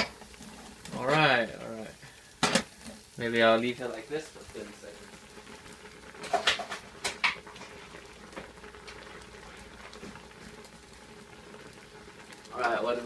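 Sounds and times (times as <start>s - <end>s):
pot of soup simmering: 0.0s - 13.0s.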